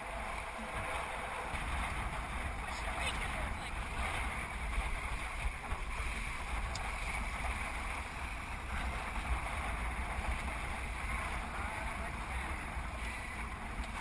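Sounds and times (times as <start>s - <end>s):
water rushing along a kayak: 0.0s - 14.0s
wind rumbling on microphone: 0.0s - 14.0s.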